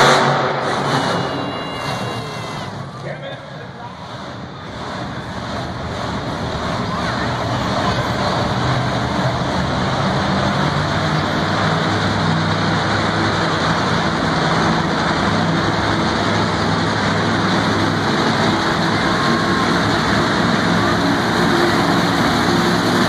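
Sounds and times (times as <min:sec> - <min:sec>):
monster truck engine running: 0:00.0 - 0:23.0.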